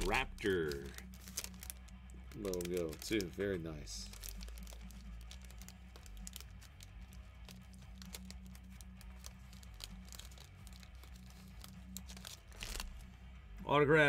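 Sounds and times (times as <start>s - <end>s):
card wrappers crinkling: 0.0s - 13.2s.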